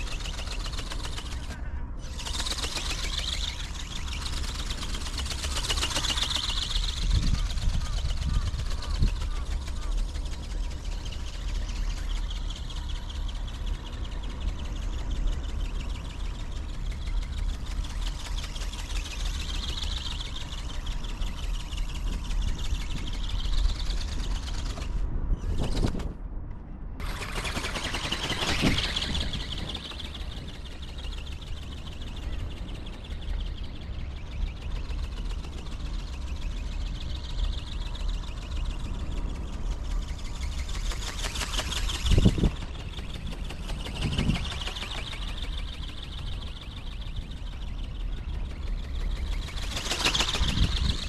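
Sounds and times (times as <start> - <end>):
wind rumble on microphone: 0.0 - 51.0.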